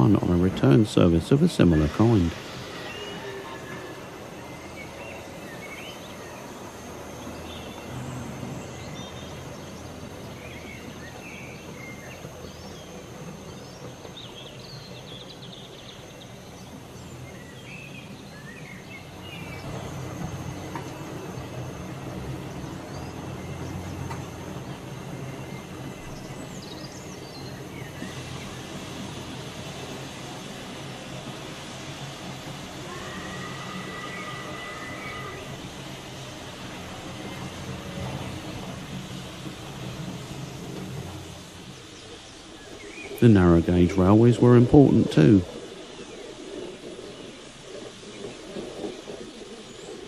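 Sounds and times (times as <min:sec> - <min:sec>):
birds chirping: 0:00.0 - 0:50.0
train rumbling past: 0:00.0 - 0:50.0.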